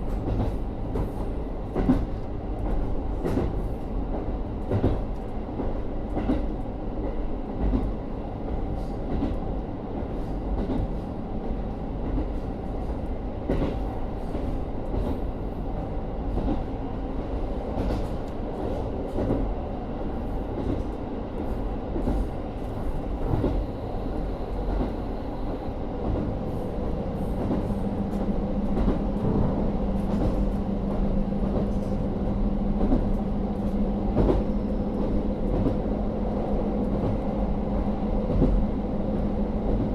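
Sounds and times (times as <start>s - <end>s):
diesel railcar running noise: 0.0s - 39.9s.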